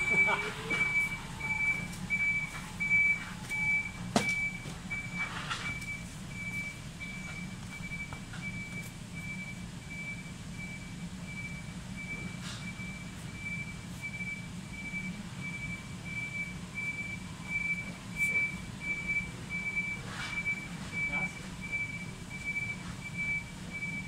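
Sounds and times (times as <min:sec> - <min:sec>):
electronic warning beeps: 0:00.0 - 0:24.0.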